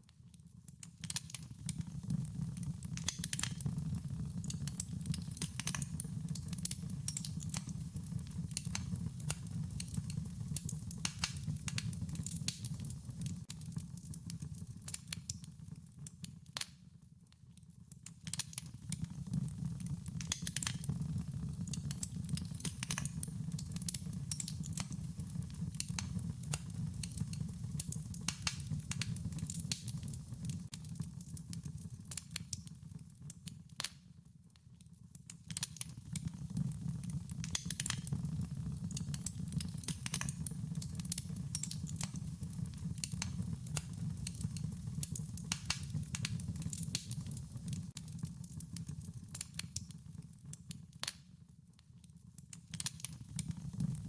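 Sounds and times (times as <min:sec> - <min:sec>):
wood fire crackling and popping: 0:00.1 - 0:54.0.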